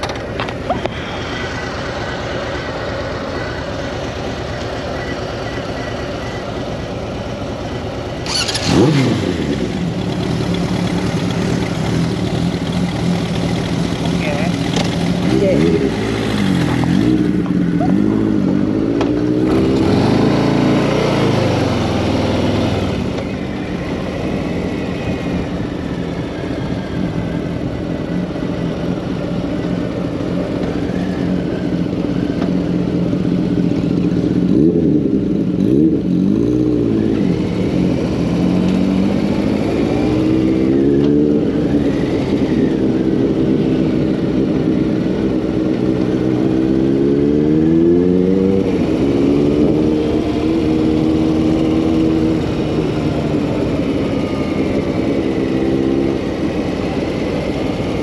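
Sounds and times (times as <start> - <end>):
motorcycle engine revving: 8.0 - 58.0.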